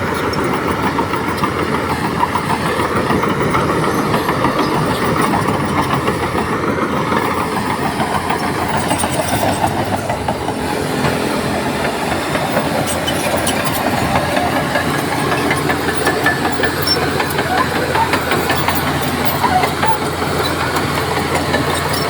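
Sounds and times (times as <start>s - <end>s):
diesel engine under load: 0.0s - 22.0s
steel tracks clanking: 0.0s - 22.0s.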